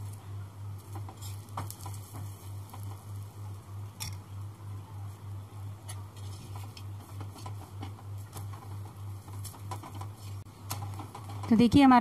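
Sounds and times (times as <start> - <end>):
flatbread crackling on griddle: 0.0 - 12.0
pulsing electrical hum: 0.0 - 12.0.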